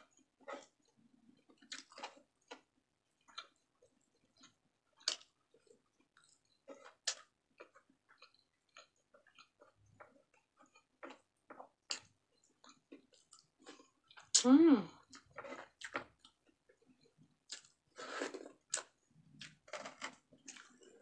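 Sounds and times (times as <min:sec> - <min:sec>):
chewing and mouth clicks: 0:00.0 - 0:14.4, 0:15.0 - 0:21.0.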